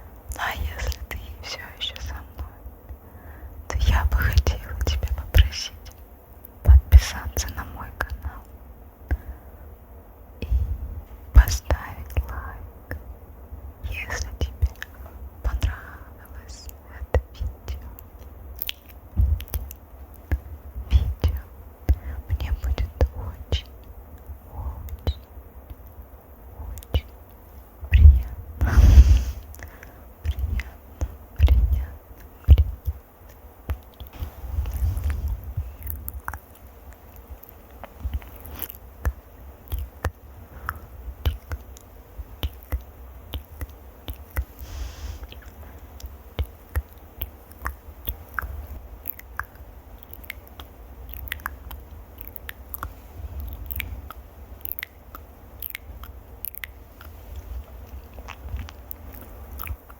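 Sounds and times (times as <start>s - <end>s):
crackles and clicks at microphone: 0.2s - 3.0s, 3.7s - 9.3s, 10.4s - 13.1s, 13.8s - 26.0s, 26.6s - 59.9s.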